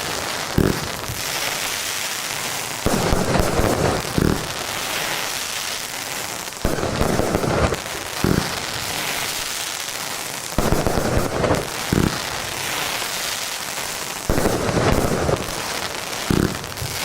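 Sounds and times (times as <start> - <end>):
crackling hiss: 0.0 - 17.0
firework bangs: 0.0 - 17.0.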